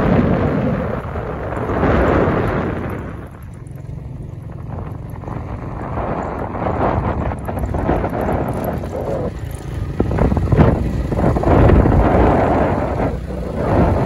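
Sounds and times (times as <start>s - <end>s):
low engine hum: 0.0s - 14.0s
wind rushing over microphone: 0.0s - 14.0s.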